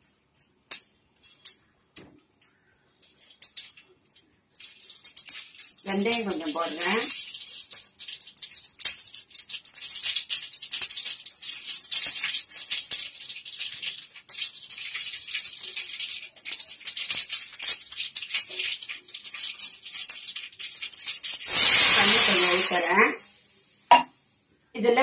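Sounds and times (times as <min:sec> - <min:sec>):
seeds popping in hot oil: 0:00.0 - 0:23.0
oil sizzling: 0:00.0 - 0:24.1.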